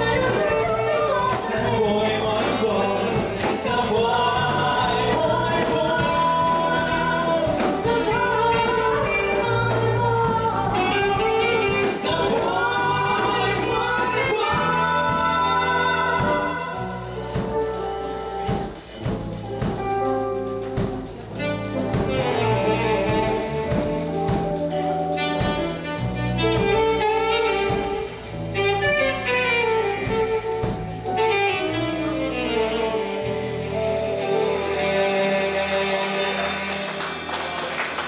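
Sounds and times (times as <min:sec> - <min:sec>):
melodic lead instrument: 0:00.0 - 0:37.4
bass line: 0:00.0 - 0:38.0
drums keeping beat: 0:00.0 - 0:38.0.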